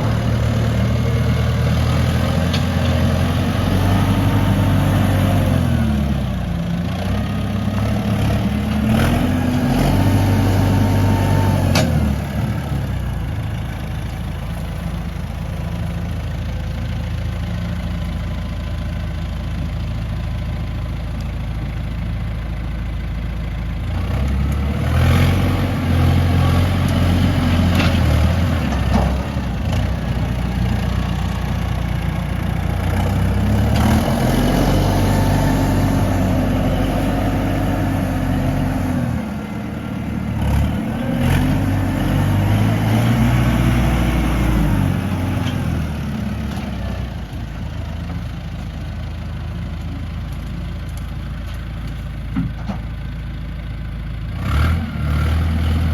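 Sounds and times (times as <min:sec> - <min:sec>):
diesel engine revving: 0:00.0 - 0:20.9, 0:23.8 - 0:51.0, 0:53.8 - 0:55.9.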